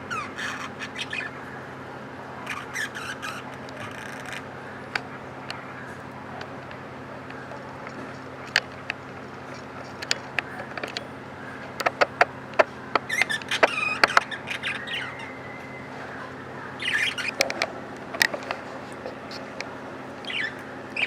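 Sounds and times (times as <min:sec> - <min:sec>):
budgies chirping and squawking: 0:00.0 - 0:01.6, 0:02.4 - 0:06.4, 0:09.5 - 0:21.0
low steady hum: 0:00.0 - 0:21.0.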